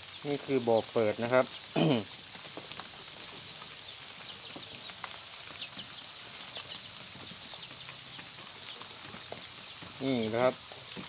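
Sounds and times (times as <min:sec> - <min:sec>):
crickets chirping: 0:00.0 - 0:11.0
faint scattered ticks: 0:00.0 - 0:11.0.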